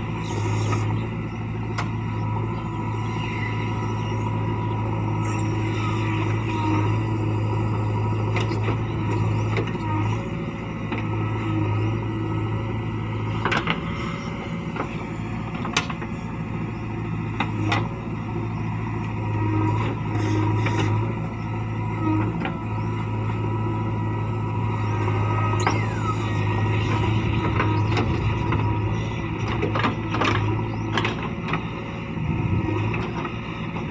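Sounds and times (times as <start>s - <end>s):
diesel engine running under load: 0.0s - 33.9s.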